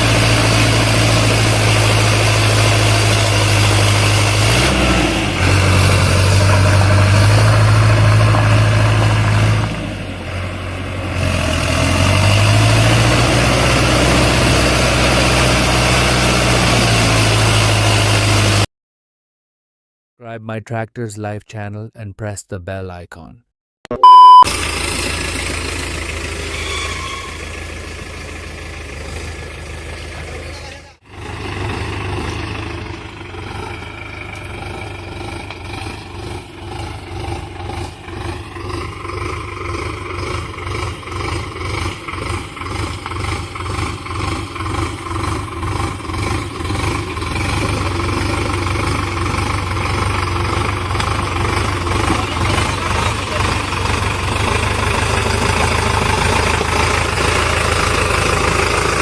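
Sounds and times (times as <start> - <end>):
tractor diesel engine running: 0.0 - 18.7, 24.0 - 59.0.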